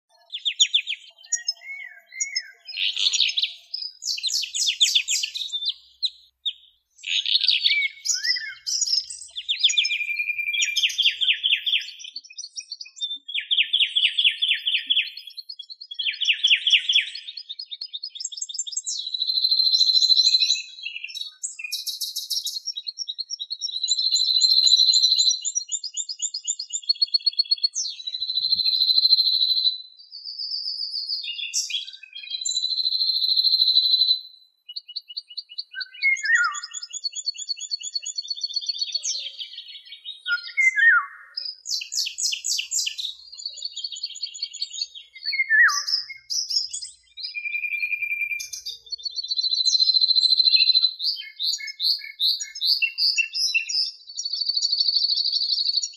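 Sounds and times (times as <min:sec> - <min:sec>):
songbird singing trills: 0:00.0 - 0:55.9.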